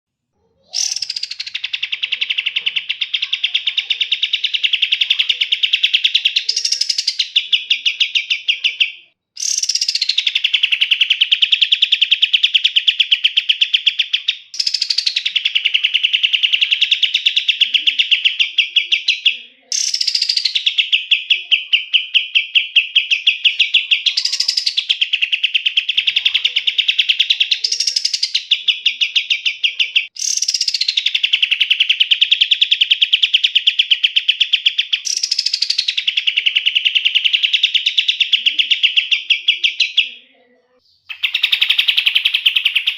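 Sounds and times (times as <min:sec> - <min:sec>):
bird singing rattling trills: 0:00.7 - 0:40.1, 0:41.0 - 0:42.9.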